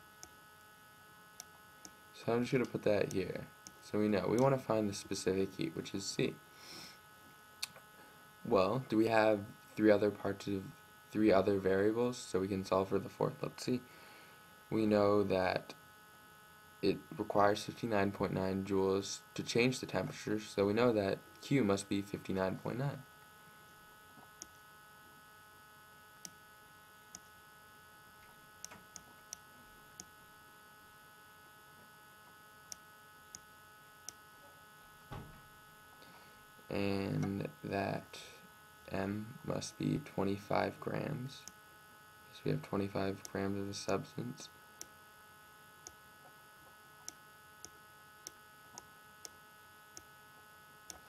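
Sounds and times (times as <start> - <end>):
electrical mains hum: 0.0 - 51.0.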